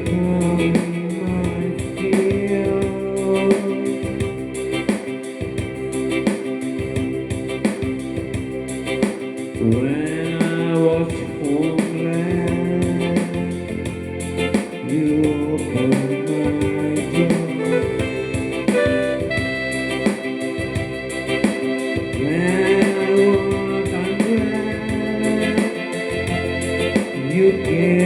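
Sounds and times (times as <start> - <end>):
person singing gospel melody: 0.0 - 5.5, 9.5 - 28.0
electronic keyboard with beat: 0.0 - 28.0.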